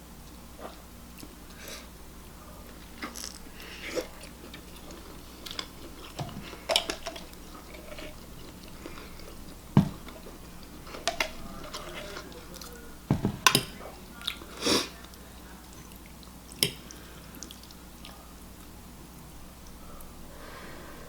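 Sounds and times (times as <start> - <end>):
chewing and smacking: 0.3 - 1.6, 2.6 - 20.1.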